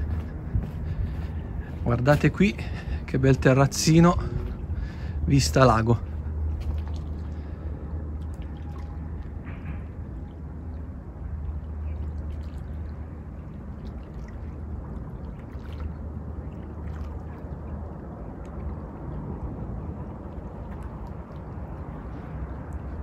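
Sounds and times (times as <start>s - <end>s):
low rumble: 0.0s - 23.0s
water lapping on pebbles: 1.8s - 9.4s, 10.5s - 23.0s.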